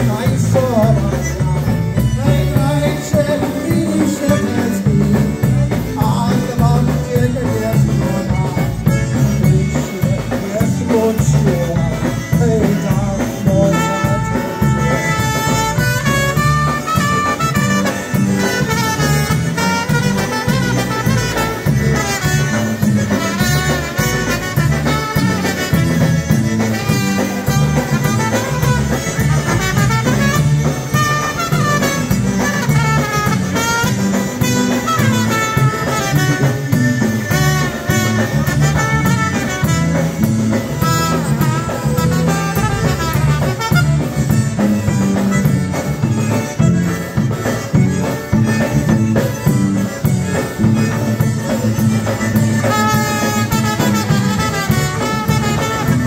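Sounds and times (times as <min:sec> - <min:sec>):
drum kit: 0:00.0 - 0:56.0
electric bass: 0:00.0 - 0:56.0
trumpet: 0:00.0 - 0:56.0
violin: 0:00.0 - 0:56.0.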